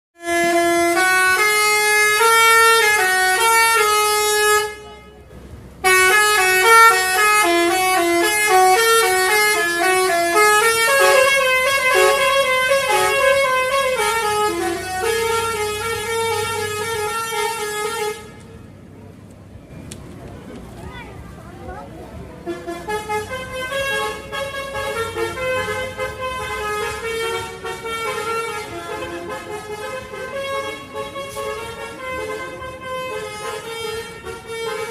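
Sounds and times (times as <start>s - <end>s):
bus multi-tone horn melody: 0.2s - 18.8s, 22.2s - 34.9s.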